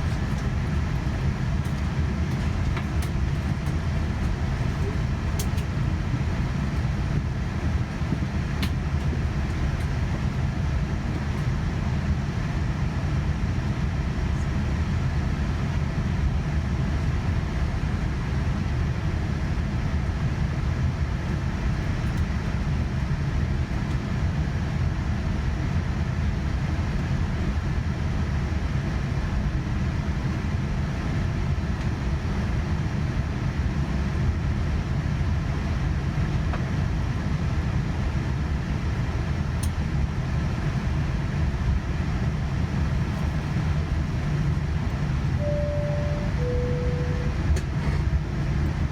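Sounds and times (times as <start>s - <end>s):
aircraft cabin rumble: 0.0s - 48.9s.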